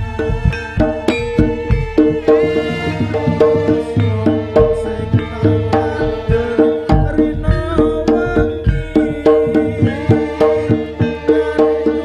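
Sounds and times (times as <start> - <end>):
struck gong-chimes: 0.0 - 11.3
hand drums beating: 0.0 - 12.0
held melody tone: 0.0 - 12.0.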